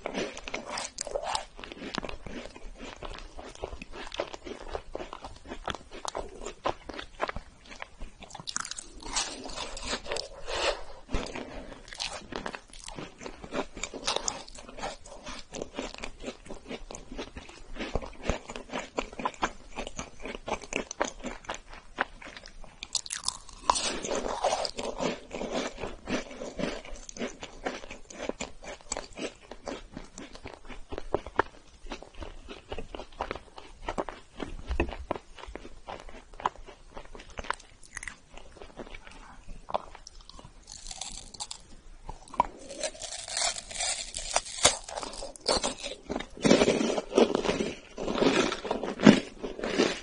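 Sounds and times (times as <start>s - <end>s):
crunching biscuit: 0.0s - 50.0s.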